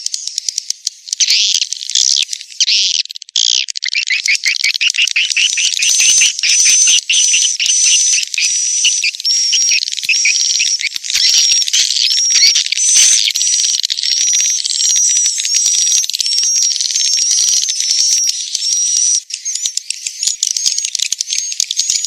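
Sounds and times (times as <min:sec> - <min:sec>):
high-pitched bird twittering: 0:00.0 - 0:22.0.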